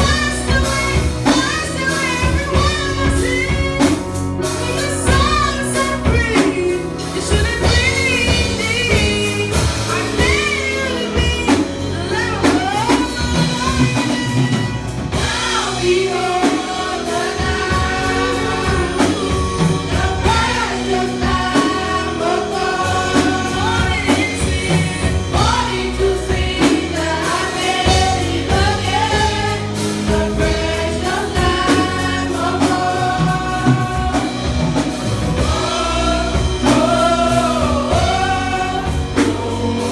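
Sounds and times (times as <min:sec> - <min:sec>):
choir singing gospel song: 0:00.0 - 0:39.9
instrumental backing: 0:00.0 - 0:39.9.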